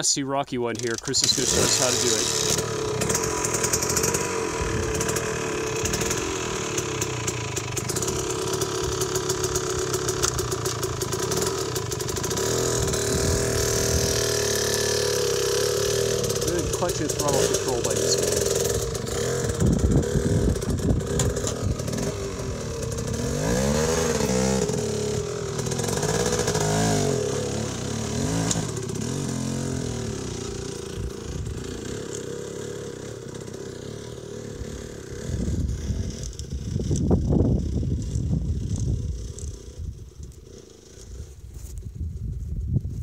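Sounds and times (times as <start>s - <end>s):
dirt bike engine revving: 0.6s - 41.4s.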